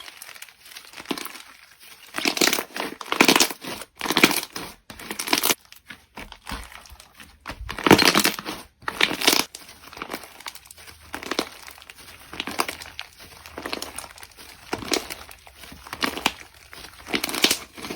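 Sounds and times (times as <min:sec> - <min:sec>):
slime squishing and crackling: 0:00.0 - 0:17.9.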